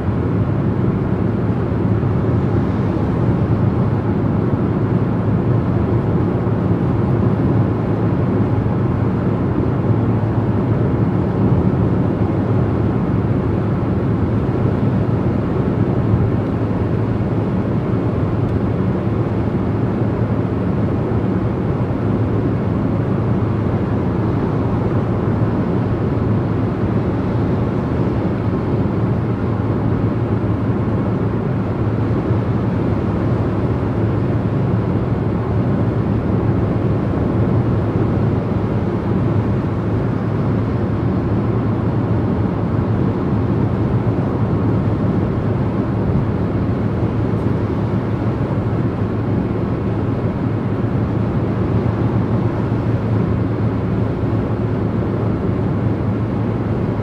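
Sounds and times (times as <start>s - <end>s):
car driving on motorway: 0.0s - 57.0s.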